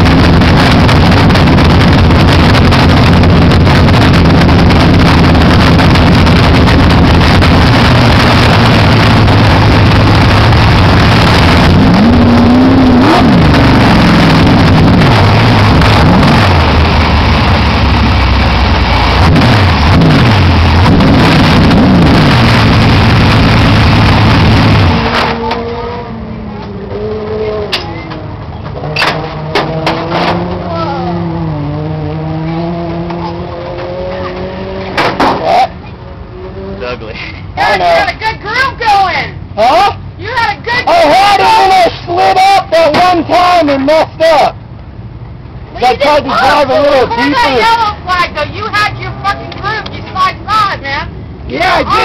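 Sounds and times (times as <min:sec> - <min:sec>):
race car engine revving: 0:00.0 - 0:38.3, 0:45.6 - 0:52.0.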